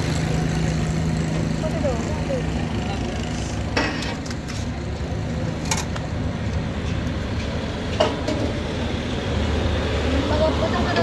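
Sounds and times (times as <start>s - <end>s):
motor vehicles rumbling: 0.0s - 11.0s.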